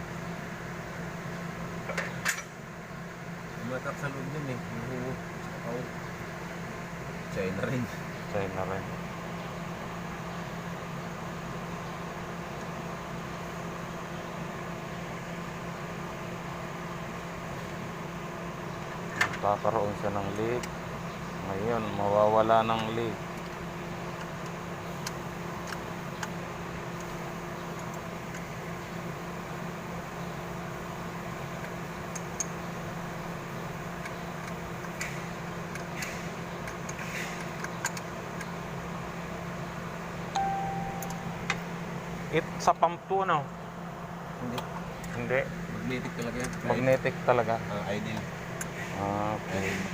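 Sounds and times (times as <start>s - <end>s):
machine humming steadily: 0.0s - 49.9s.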